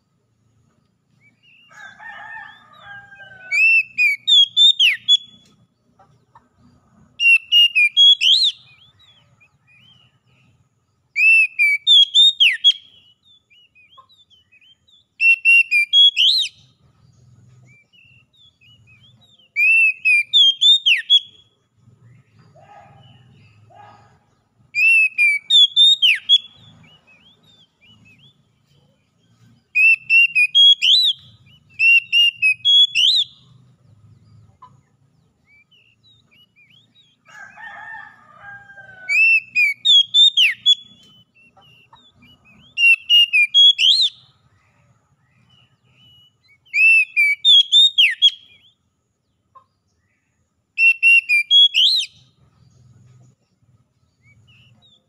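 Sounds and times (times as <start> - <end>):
bird whistled song: 1.1 - 5.7, 7.1 - 34.3, 35.3 - 48.9, 50.0 - 52.8, 54.1 - 55.0.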